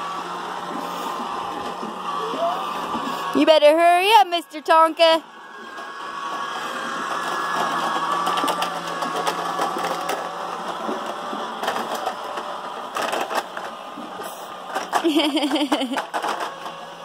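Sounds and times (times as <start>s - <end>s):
toy train motor whirring: 0.0s - 17.0s
wheels clicking and knocking: 0.6s - 17.0s.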